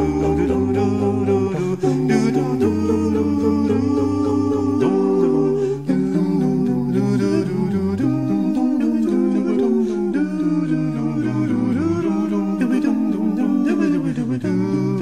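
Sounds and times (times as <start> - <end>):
voices humming in harmony: 0.0 - 15.0.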